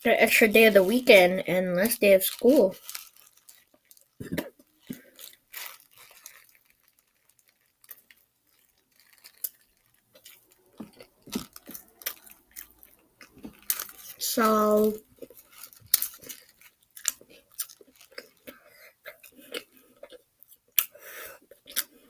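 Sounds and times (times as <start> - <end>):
crunchy chewing: 1.9 - 14.2, 14.8 - 22.0.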